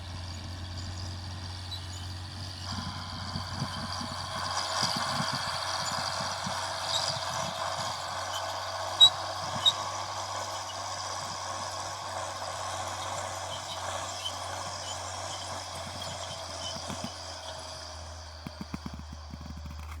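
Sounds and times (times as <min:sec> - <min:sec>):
tractor diesel engine running: 0:00.0 - 0:20.0
light irregular rattling: 0:03.3 - 0:20.0.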